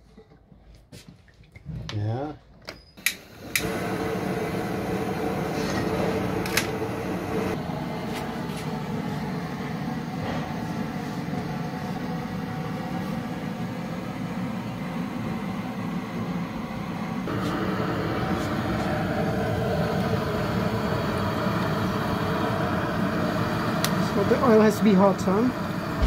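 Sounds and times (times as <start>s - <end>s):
gas burner flame noise: 3.0s - 26.0s.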